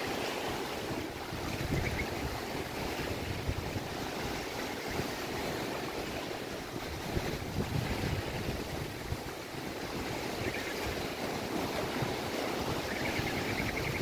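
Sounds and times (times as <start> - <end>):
waves washing and breaking: 0.0 - 14.0
wind buffeting microphone: 0.0 - 14.0.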